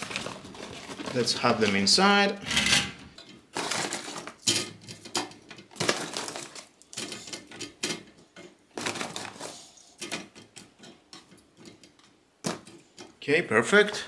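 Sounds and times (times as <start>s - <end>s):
food rustling in fryer basket: 0.0s - 2.1s, 3.1s - 13.2s.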